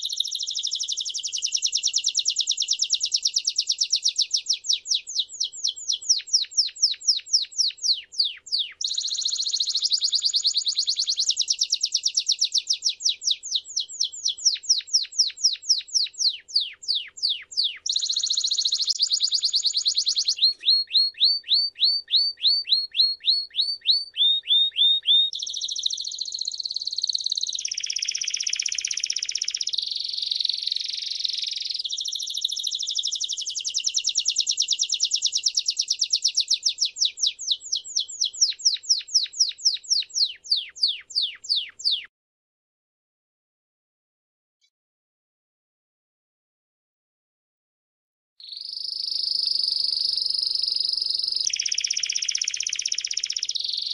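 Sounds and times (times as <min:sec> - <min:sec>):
canary singing: 0:00.0 - 0:42.1, 0:48.4 - 0:53.9.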